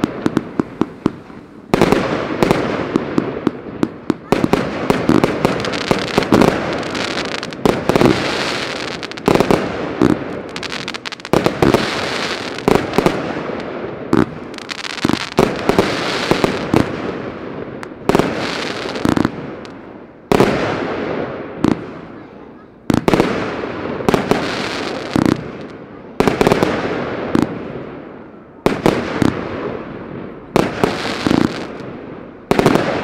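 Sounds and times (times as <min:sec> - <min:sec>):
fireworks cake firing bangs: 0:00.0 - 0:22.0, 0:22.9 - 0:27.8, 0:30.5 - 0:33.0.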